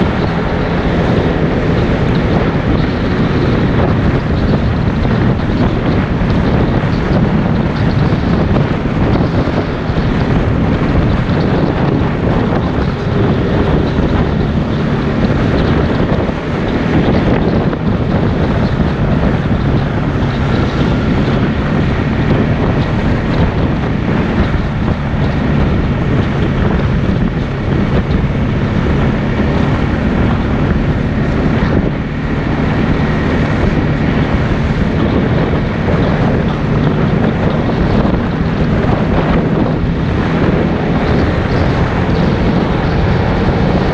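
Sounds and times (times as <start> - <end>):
atv engine running: 0.0 - 43.9
wind buffeting microphone: 0.0 - 43.9.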